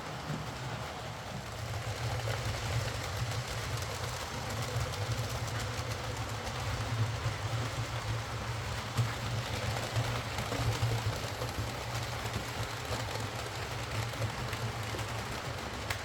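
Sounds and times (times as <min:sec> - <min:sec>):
model locomotive motor hum: 0:00.0 - 0:16.0.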